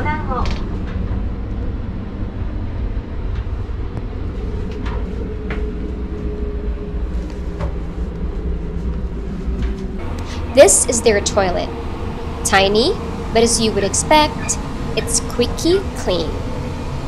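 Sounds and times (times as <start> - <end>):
faint steady hum: 0.0 - 17.0
train rumble: 0.0 - 17.0.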